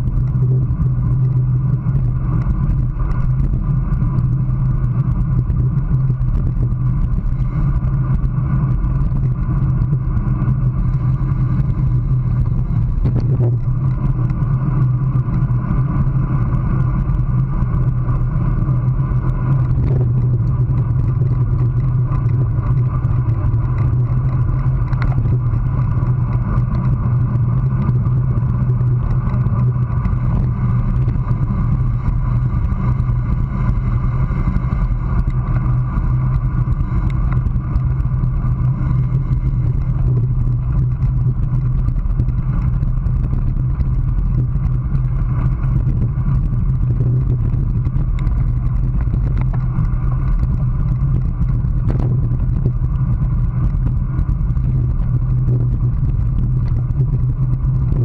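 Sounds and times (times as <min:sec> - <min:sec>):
faint hum: 0:00.0 - 0:58.0
wind and road noise: 0:00.0 - 0:58.0.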